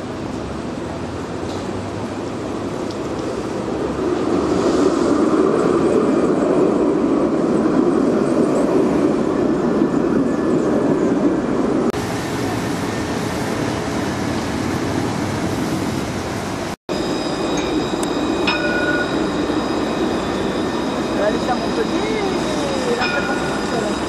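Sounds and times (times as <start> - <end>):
tram running past: 0.0 - 24.0.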